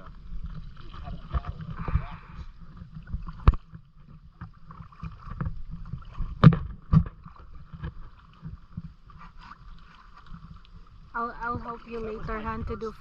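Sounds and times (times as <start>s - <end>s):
kayak paddling: 0.0s - 13.0s
water noise: 0.0s - 13.0s.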